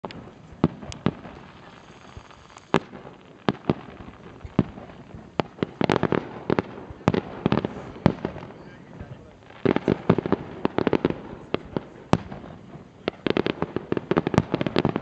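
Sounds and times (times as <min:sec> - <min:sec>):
fireworks banging and crackling: 0:00.0 - 0:15.0.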